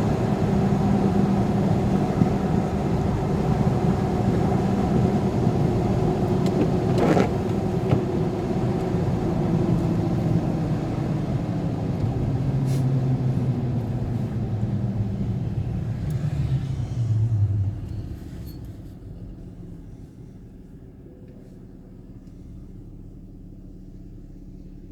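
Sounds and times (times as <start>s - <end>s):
vehicle engine slowing: 0.0s - 24.9s.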